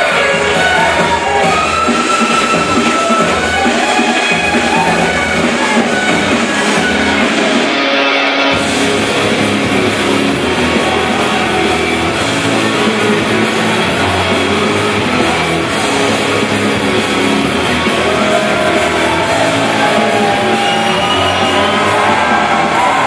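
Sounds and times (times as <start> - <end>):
loud rock music with electric guitar: 0.0 - 23.0.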